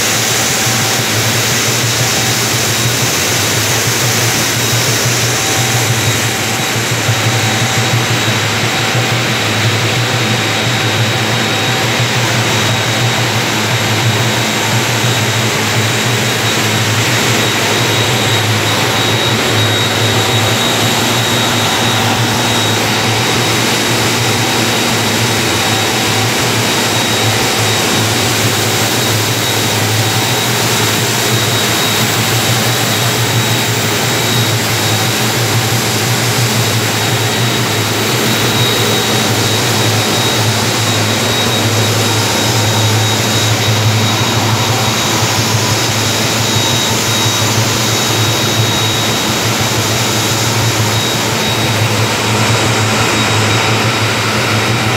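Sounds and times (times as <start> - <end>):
grain vacuum blower running: 0.0 - 54.9.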